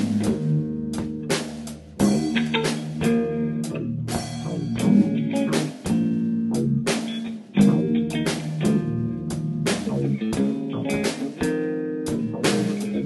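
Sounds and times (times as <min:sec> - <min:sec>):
drum and cymbal hits: 0:00.0 - 0:03.4, 0:04.1 - 0:13.0
bass guitar: 0:00.0 - 0:13.0
guitar: 0:00.0 - 0:13.0.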